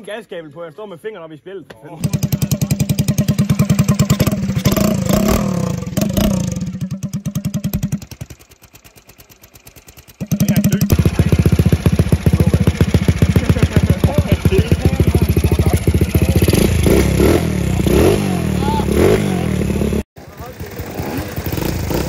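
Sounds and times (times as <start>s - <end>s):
two-stroke moped engine running: 2.0s - 22.0s.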